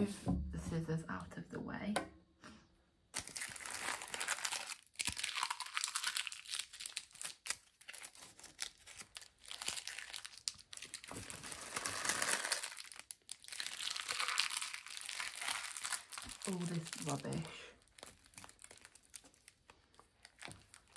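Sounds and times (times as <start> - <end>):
plastic bags crinkling: 3.2 - 20.9.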